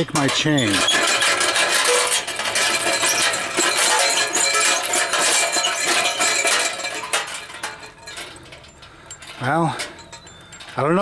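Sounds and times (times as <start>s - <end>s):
metal can rattling on chain: 0.0s - 11.0s.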